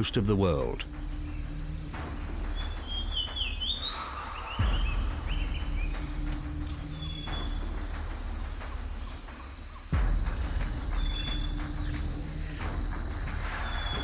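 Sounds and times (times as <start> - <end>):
birds chirping: 0.0 - 14.0
high insect trill: 0.0 - 14.0.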